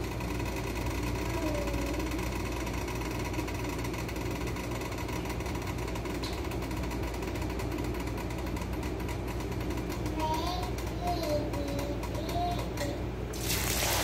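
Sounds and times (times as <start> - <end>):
small fan motor humming: 0.0 - 14.0.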